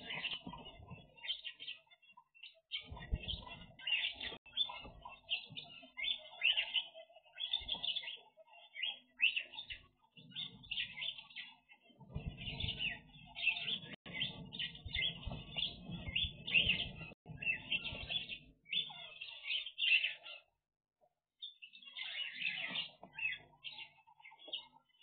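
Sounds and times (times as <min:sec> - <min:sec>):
birds chirping: 0:00.0 - 0:20.7, 0:21.3 - 0:25.0.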